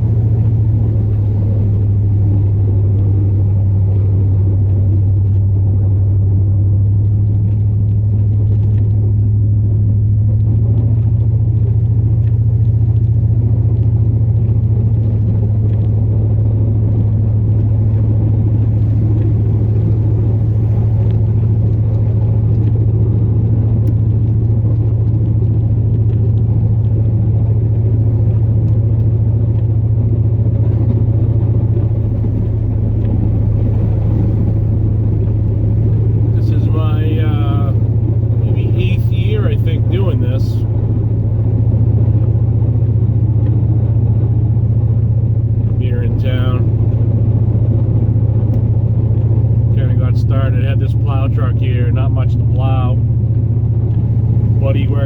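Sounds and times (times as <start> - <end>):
truck engine drone from inside cab: 0.0 - 55.0.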